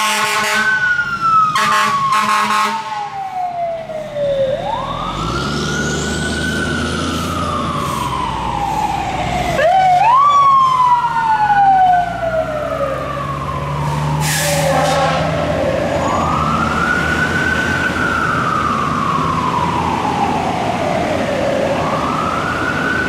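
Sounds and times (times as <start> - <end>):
emergency siren wailing: 0.0 - 23.0
vehicle engine rumbling: 2.8 - 23.0.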